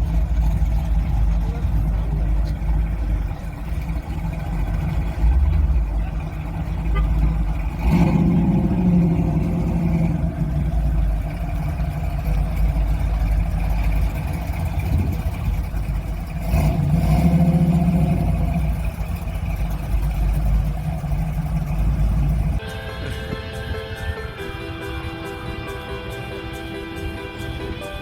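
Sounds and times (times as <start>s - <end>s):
car revving: 0.0s - 27.7s
car engines rumbling: 0.0s - 28.0s.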